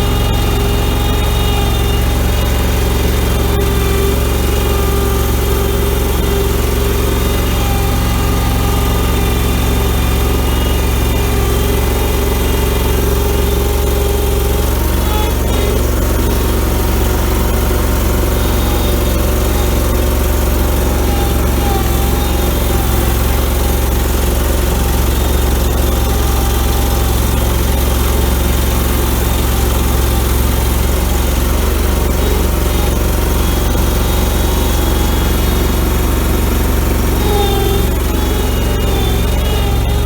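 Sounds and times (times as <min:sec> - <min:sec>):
backhoe engine running: 0:00.0 - 0:40.0.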